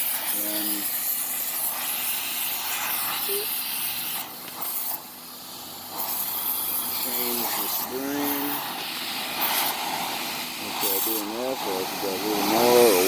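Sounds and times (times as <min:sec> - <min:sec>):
pressure washer spraying wood: 0:00.0 - 0:13.0.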